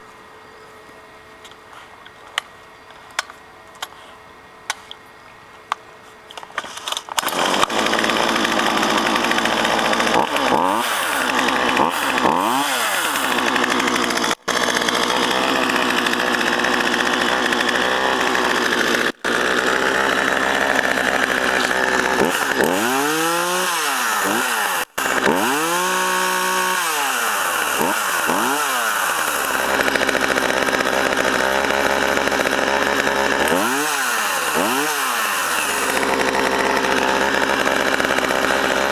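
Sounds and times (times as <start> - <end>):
chainsaw revving: 7.2 - 38.9.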